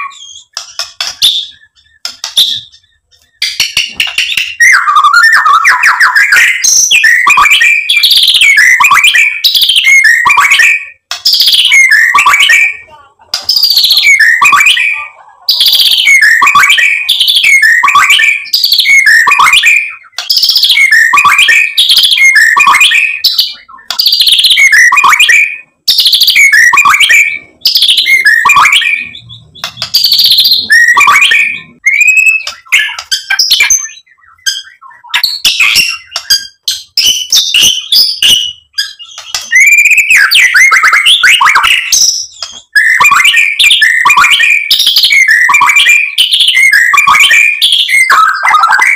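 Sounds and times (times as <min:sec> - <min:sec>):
bird singing whistled phrases: 0:00.0 - 0:12.9, 0:13.5 - 0:48.9.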